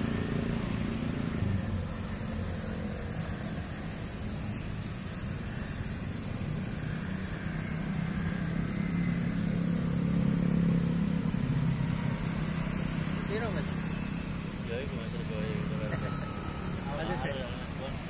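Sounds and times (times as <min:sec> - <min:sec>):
cars and motorcycles passing: 0:00.0 - 0:18.0.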